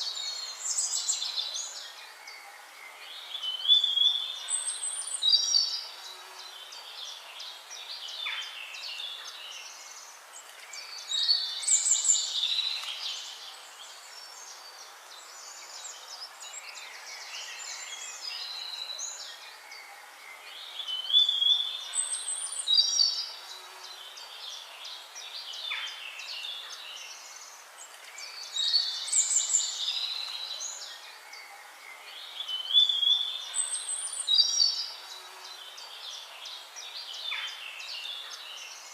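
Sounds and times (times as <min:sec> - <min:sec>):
faint steady hiss: 0:00.0 - 0:38.9
songbirds singing and chirping: 0:00.0 - 0:38.9.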